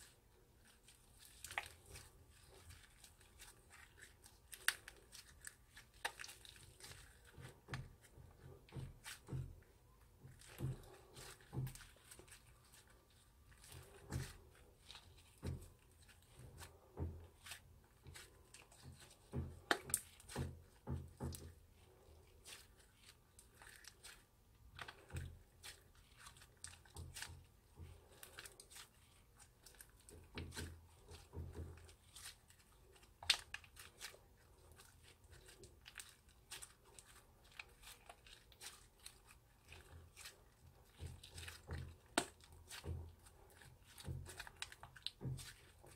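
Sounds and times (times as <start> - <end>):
sharp crackle of slime: 0.0 - 8.1, 10.2 - 45.9
slime squelching and popping: 0.0 - 45.9.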